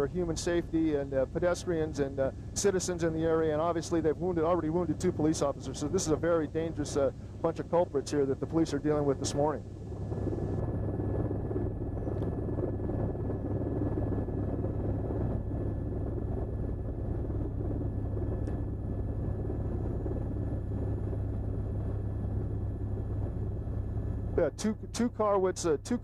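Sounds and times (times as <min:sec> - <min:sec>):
helicopter engine and rotor rumble: 0:00.0 - 0:26.0.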